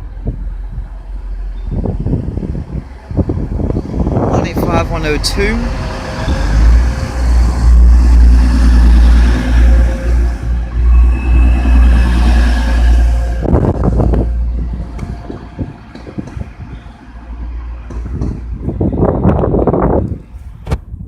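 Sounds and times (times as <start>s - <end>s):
diesel train engine rumbling: 0.0s - 21.0s.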